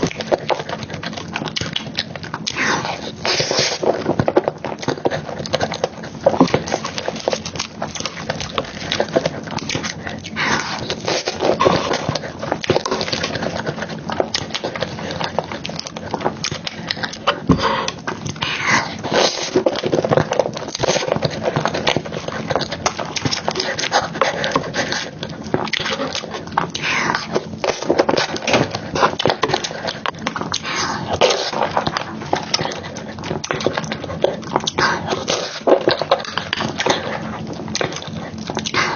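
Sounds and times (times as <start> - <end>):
wet chewing and smacking: 0.0 - 38.9.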